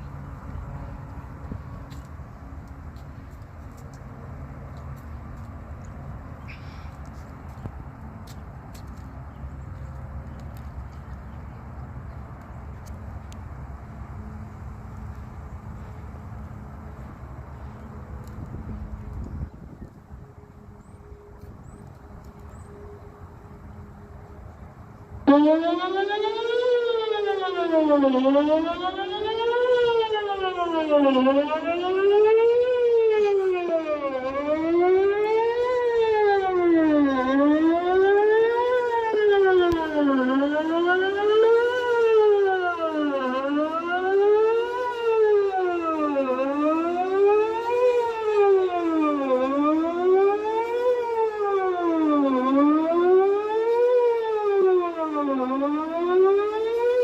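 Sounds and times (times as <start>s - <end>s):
warning siren wailing: 0.0s - 5.6s, 15.0s - 57.0s.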